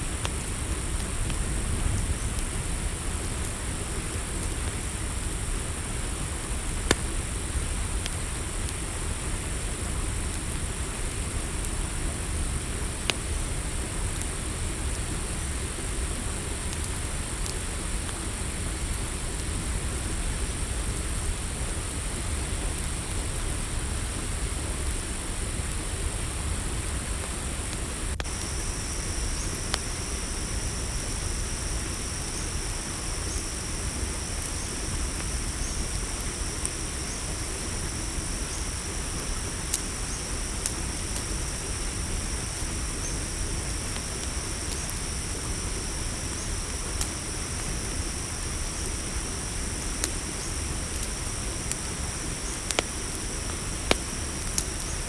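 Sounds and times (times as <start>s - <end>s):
campfire crackles: 0.0s - 55.0s
crickets trilling: 0.0s - 55.0s
lower insect trill: 0.0s - 55.0s.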